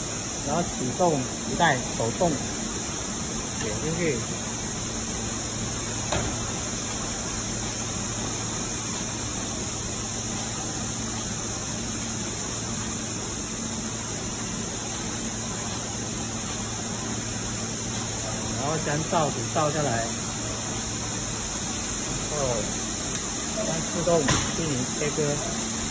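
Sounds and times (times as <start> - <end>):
cutting machine humming and hissing: 0.0 - 25.9.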